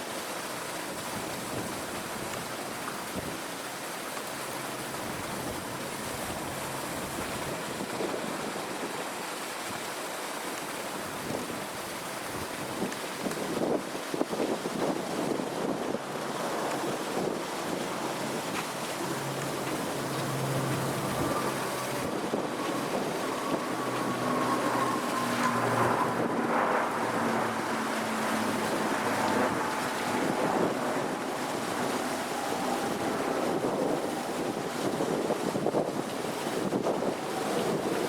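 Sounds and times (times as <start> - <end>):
wind on microphone: 1.0 - 3.5, 4.9 - 9.0, 10.9 - 38.0.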